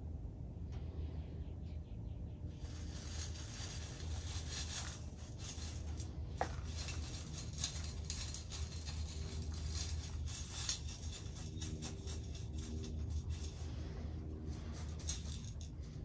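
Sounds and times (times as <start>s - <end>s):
steady low hum: 0.0s - 16.0s
soil rustling and scraping: 2.6s - 16.0s.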